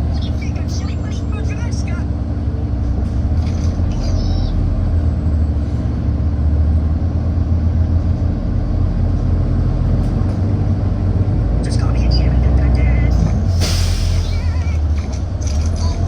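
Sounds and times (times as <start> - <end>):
bus engine rumbling: 0.0 - 16.0
road noise: 0.0 - 16.0.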